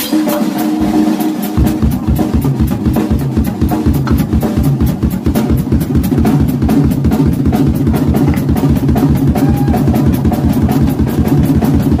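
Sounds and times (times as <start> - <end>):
rock drum solo: 0.0 - 12.0
kick drum beats: 1.6 - 12.0.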